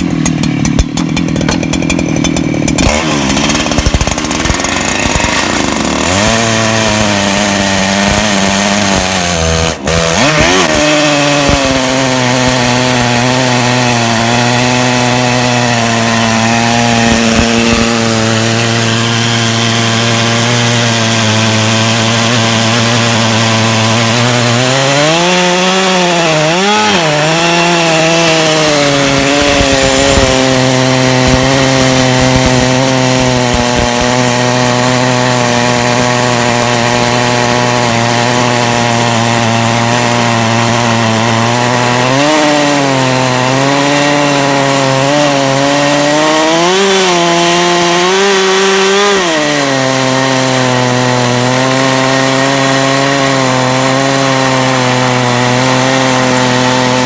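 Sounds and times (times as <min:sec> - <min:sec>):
chainsaw cutting log at full throttle: 0:00.0 - 0:57.0.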